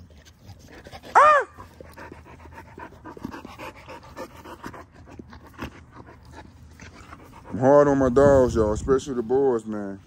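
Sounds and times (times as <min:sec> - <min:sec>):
dogs panting: 0:00.0 - 0:09.4.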